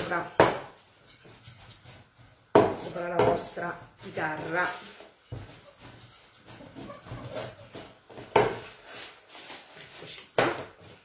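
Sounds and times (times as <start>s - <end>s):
rolling pin rolling over dough: 0.0s - 11.0s.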